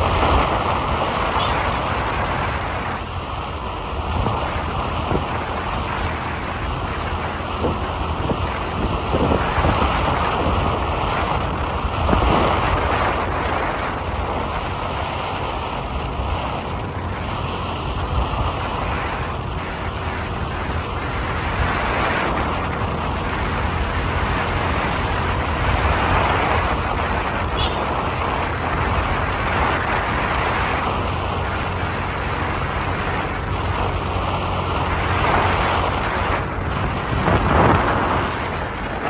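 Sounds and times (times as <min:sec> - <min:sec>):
low vehicle rumble: 0:00.0 - 0:39.0
road noise: 0:00.0 - 0:39.0
wind rushing: 0:03.8 - 0:39.0.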